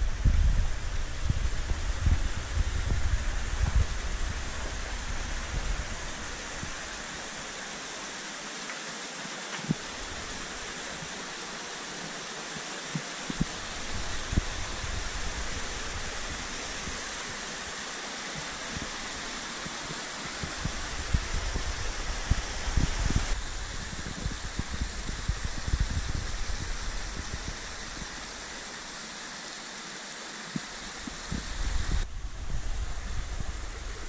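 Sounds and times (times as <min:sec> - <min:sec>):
waterfall rushing over rocks: 0:00.0 - 0:34.0.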